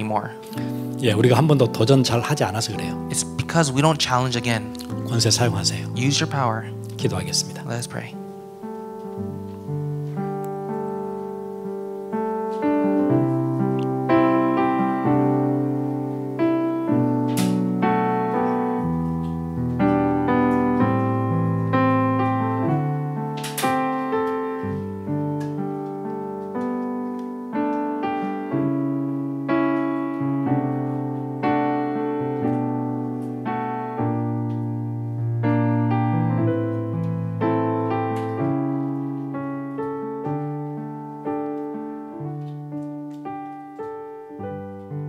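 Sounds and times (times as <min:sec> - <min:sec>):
slow soft piano chords: 0:00.0 - 0:45.0.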